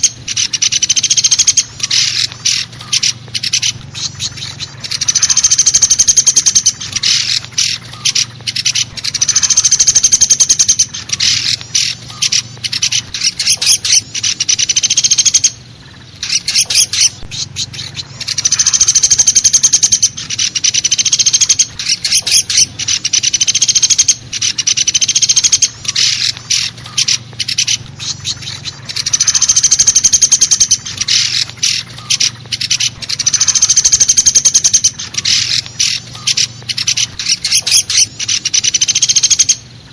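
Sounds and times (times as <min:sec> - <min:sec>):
faint low hum: 0:00.0 - 0:39.9
woodpecker rattling calls: 0:00.0 - 0:39.9.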